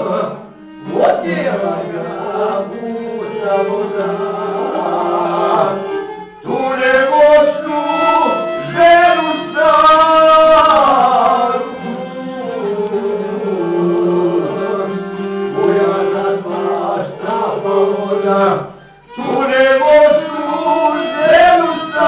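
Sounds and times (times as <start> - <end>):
bowed violin: 0.0 - 22.0
men singing folk song: 0.0 - 22.0
strummed lute: 0.0 - 22.0.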